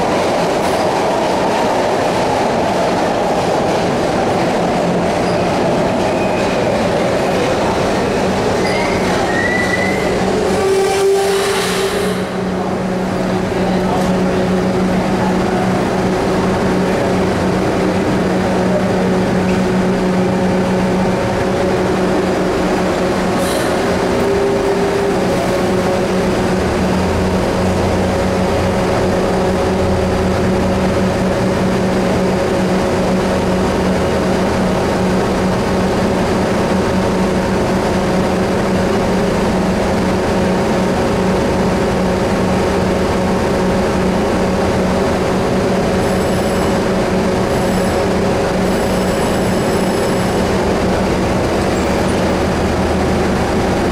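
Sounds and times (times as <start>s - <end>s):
subway train equipment humming: 0.0s - 53.9s.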